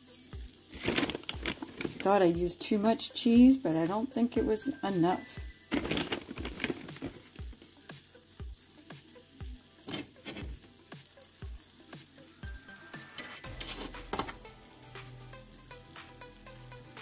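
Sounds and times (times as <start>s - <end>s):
cheese sizzling and crackling: 0.0s - 17.0s
soft background music: 0.0s - 17.0s.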